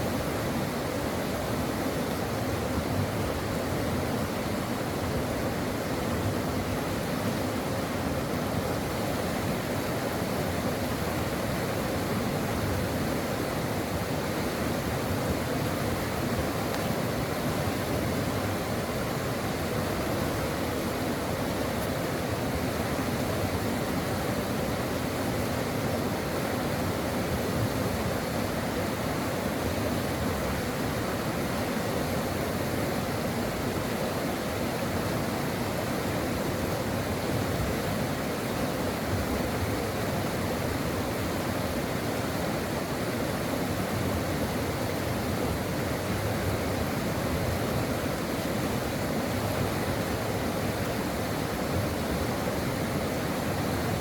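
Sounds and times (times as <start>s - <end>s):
brook water running: 0.0s - 54.0s.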